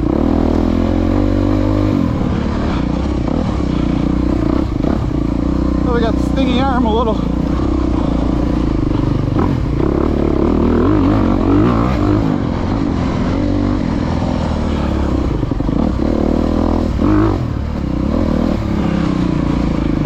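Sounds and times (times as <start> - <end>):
bike rattling: 0.0 - 20.0
dirt bike engine revving: 0.0 - 20.0.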